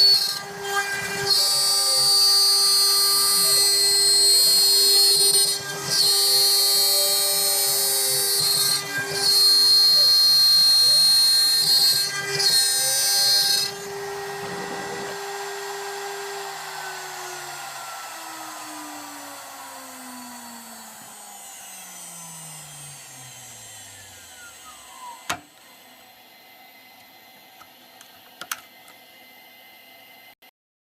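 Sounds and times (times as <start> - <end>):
router spindle whine spinning down: 0.0 - 30.3.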